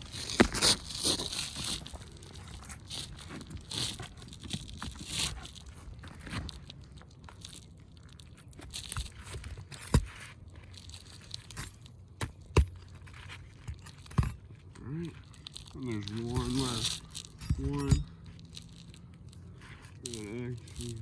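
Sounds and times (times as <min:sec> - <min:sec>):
roof shingles scraping and tearing: 0:00.0 - 0:21.0.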